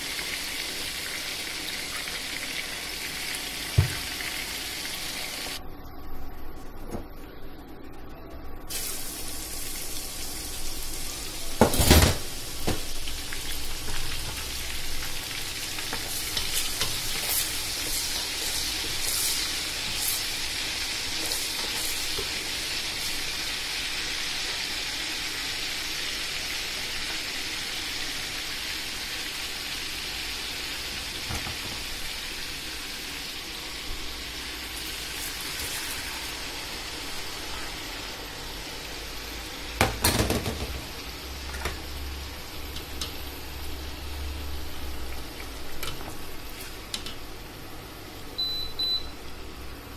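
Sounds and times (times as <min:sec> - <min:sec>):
food sizzling in hot oil: 0:00.0 - 0:05.6, 0:08.7 - 0:47.0.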